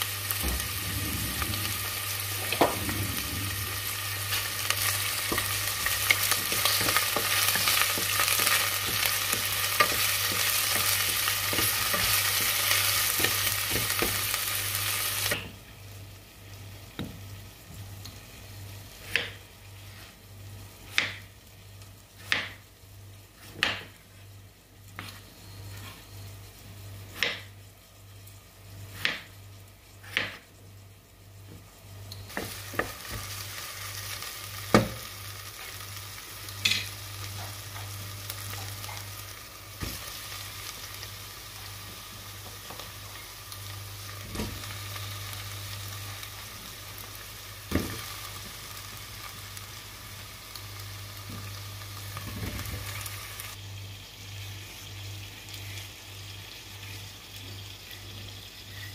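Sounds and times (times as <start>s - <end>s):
onions sizzling in a pot: 0.0s - 58.9s.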